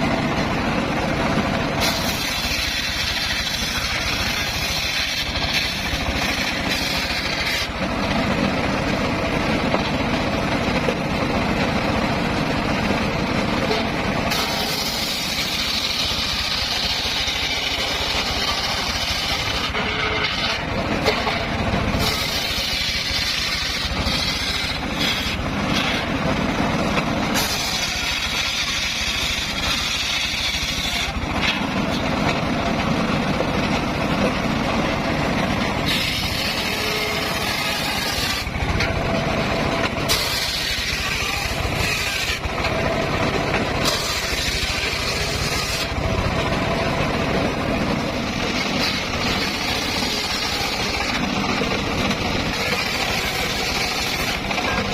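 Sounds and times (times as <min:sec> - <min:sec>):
saw blade cutting wood: 0:00.0 - 0:09.0, 0:13.6 - 0:32.5, 0:35.0 - 0:47.0, 0:47.8 - 0:54.9
circular saw running: 0:00.0 - 0:54.9.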